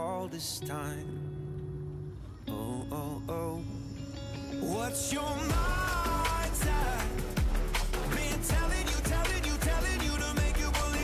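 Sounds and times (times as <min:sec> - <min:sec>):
pop music with steady beat: 0:00.0 - 0:01.8, 0:02.5 - 0:11.0.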